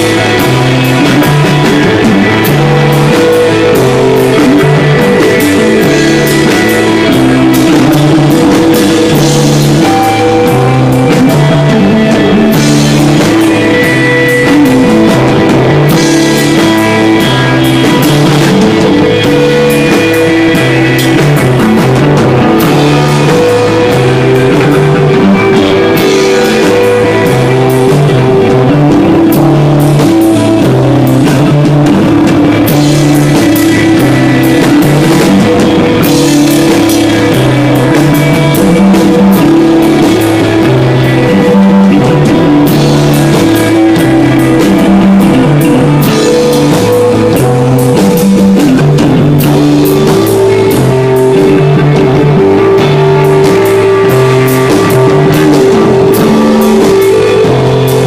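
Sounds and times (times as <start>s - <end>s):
bass line: 0.0s - 58.0s
drum kit: 0.0s - 58.0s
electric guitar: 0.0s - 58.0s.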